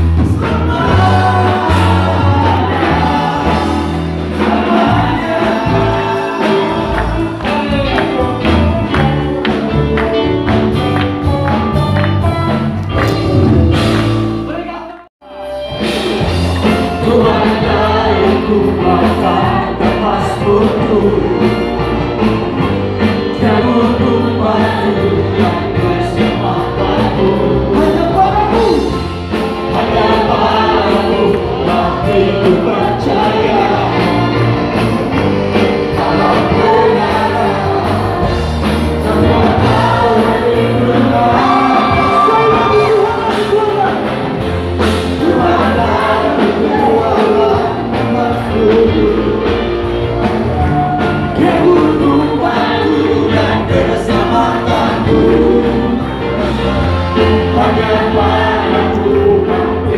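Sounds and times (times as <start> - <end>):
congregation singing: 0.0 - 11.8, 15.8 - 59.9
church band playing: 0.0 - 59.9.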